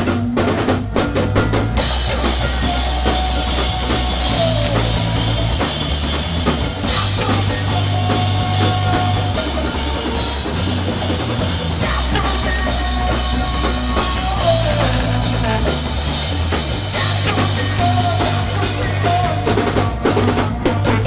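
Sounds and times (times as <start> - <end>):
bass guitar: 0.0 - 21.0
drum kit: 0.0 - 21.0
electric guitar: 0.0 - 21.0.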